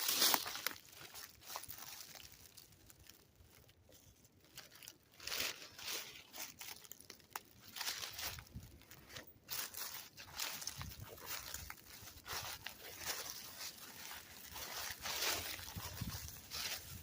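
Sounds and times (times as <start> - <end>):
footsteps crunching through dry leaves: 0.0 - 17.0.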